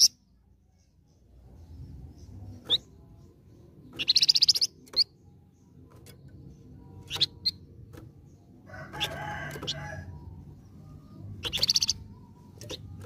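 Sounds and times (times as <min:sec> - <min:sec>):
bird chirps: 0:00.0 - 0:13.0
songbird trill: 0:00.0 - 0:13.0.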